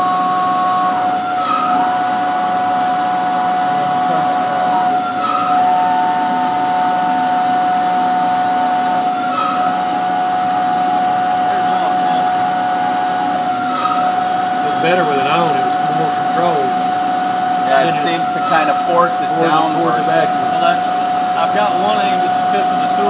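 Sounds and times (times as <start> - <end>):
milling cutter whining: 0.0 - 23.0.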